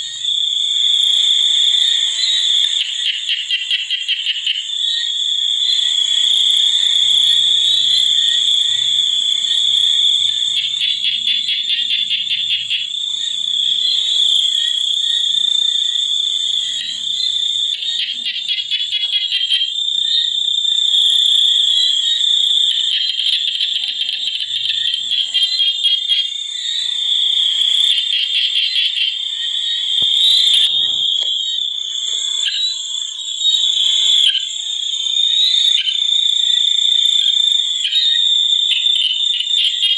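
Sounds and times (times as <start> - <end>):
frogs and insects chorus: 0.0 - 39.9.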